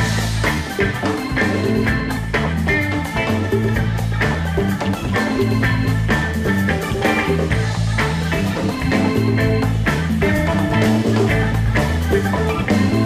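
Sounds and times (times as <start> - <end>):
bass line: 0.0 - 13.0
drums: 0.0 - 13.0
guitar: 0.0 - 13.0
keyboard: 0.0 - 13.0.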